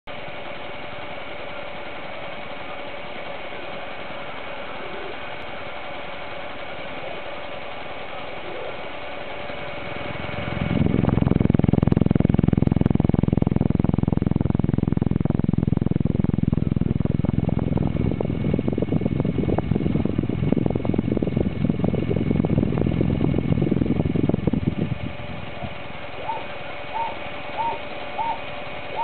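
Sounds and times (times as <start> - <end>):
rc helicopter motor whine and rattle: 0.2 - 29.0.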